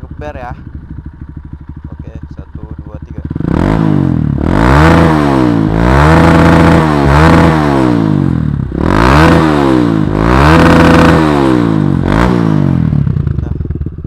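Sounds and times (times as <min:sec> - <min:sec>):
motorcycle engine throttle blips: 0:00.0 - 0:14.0.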